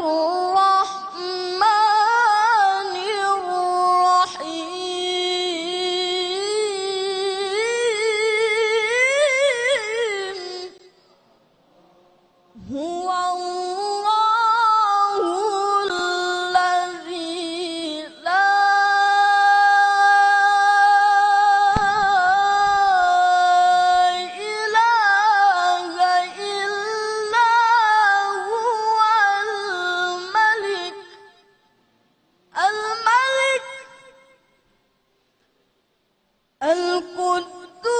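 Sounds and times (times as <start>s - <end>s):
boy reciting melodically: 0.0s - 11.1s, 12.6s - 31.5s, 32.5s - 34.4s, 36.6s - 37.9s.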